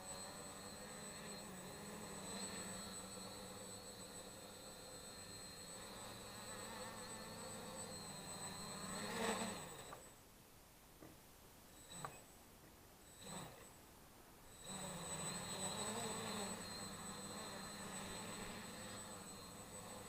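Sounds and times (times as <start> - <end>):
quadcopter propellers buzzing: 0.0 - 10.1, 13.1 - 13.7, 14.5 - 20.0.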